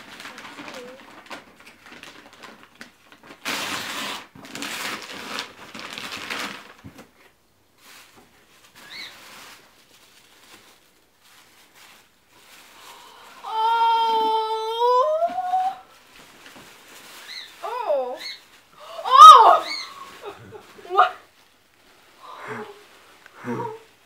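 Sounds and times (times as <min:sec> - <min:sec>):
wrapping paper tearing: 0:00.0 - 0:07.2, 0:07.8 - 0:21.1
rustling of paper and cardboard box: 0:00.0 - 0:22.2.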